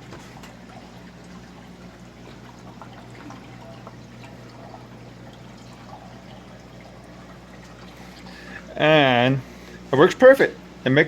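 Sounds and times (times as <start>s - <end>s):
water trickling and dripping: 0.0s - 9.2s
steady low hum: 0.0s - 11.0s.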